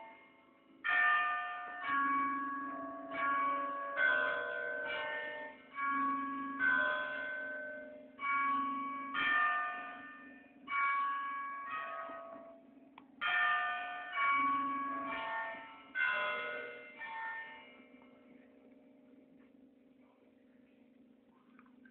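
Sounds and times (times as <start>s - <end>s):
church bells ringing: 0.0s - 19.3s.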